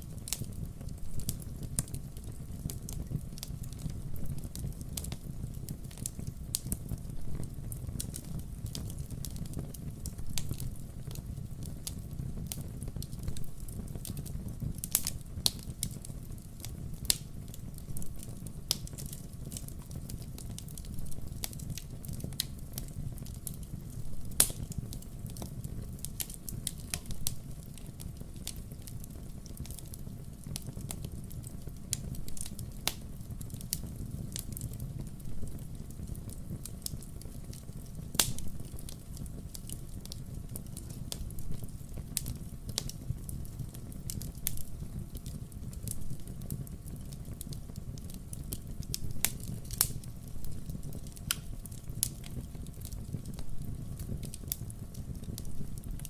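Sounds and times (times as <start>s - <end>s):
fire popping and snapping: 0.0s - 56.0s
low rumble of burning logs: 0.0s - 56.0s.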